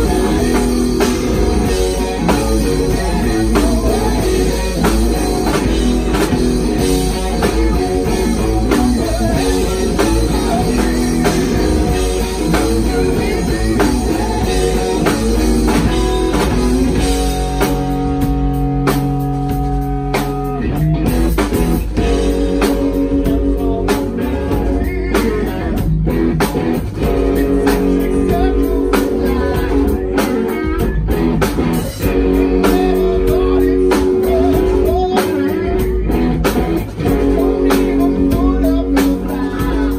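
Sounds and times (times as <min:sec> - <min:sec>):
person singing: 0:00.0 - 0:17.7, 0:22.0 - 0:31.4, 0:32.0 - 0:39.9
live rock band playing: 0:00.0 - 0:39.9.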